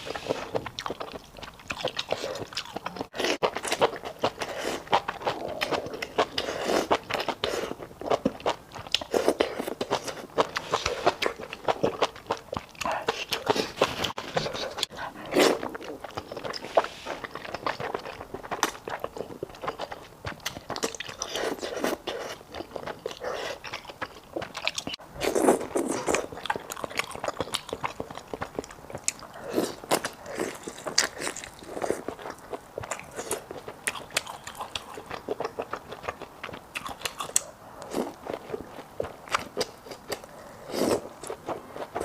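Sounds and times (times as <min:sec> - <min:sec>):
close chewing and biting: 0:00.0 - 0:42.0
food crunching: 0:00.1 - 0:42.0.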